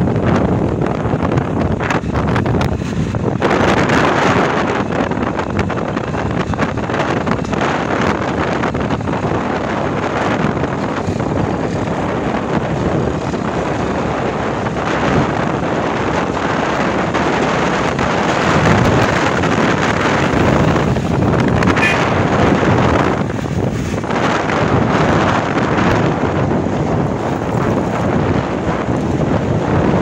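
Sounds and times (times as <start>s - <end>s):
road noise: 0.0s - 30.0s
wind buffeting microphone: 0.0s - 30.0s.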